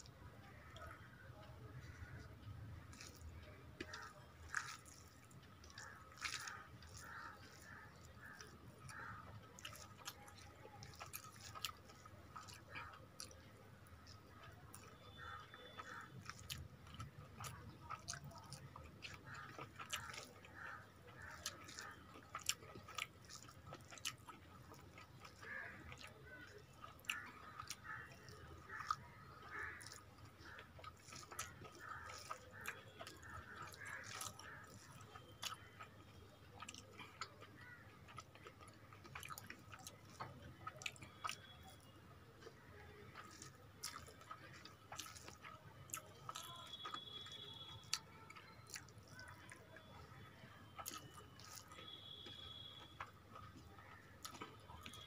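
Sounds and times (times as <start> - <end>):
chewing rice: 0.0 - 55.0.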